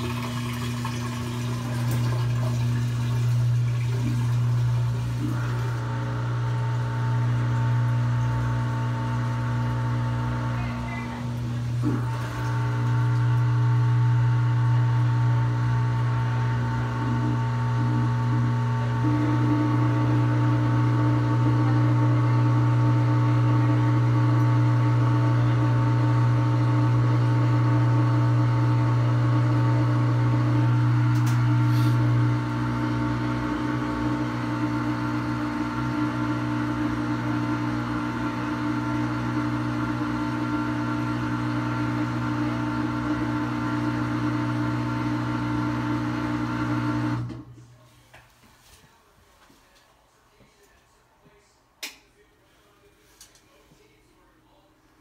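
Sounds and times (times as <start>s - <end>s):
washing machine hum: 0.0s - 51.8s.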